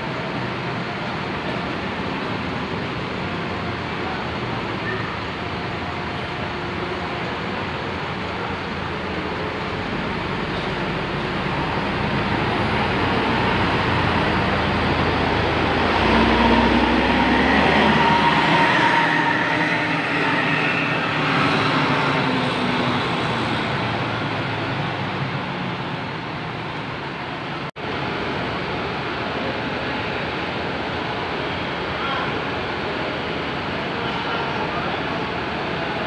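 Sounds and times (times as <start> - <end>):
bus engine driving past: 0.0 - 36.0.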